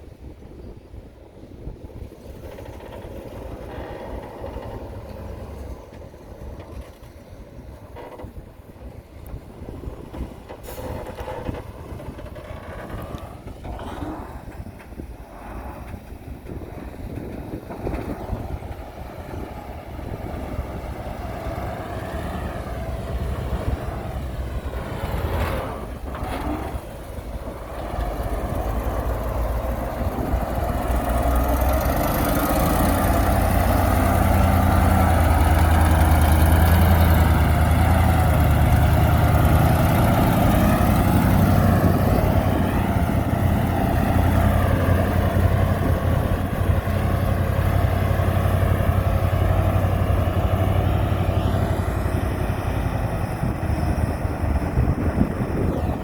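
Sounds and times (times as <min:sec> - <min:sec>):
heavy diesel engine running: 0:01.9 - 0:56.0.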